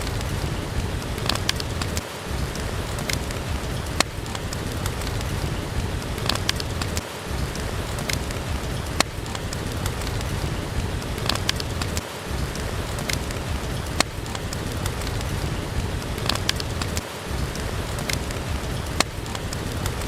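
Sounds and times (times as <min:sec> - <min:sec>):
steady rain: 0:00.0 - 0:20.0
wood fire crackling and popping: 0:00.0 - 0:20.0.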